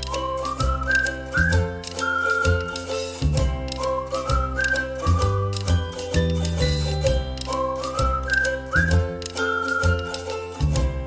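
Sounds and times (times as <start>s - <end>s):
cheerful instrumental music: 0.0s - 11.0s.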